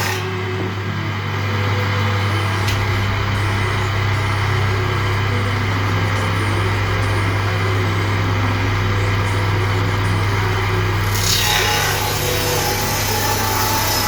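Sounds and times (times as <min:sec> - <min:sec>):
woodworking machine motor hum: 0:00.0 - 0:14.0.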